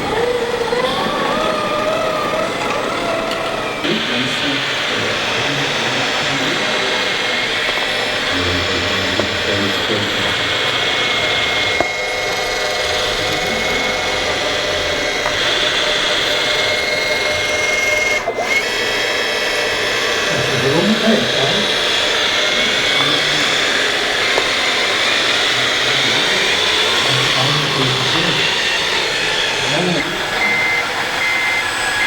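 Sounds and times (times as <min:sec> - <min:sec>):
high held tone: 0:00.0 - 0:32.0
small electric motors whining: 0:00.0 - 0:32.0.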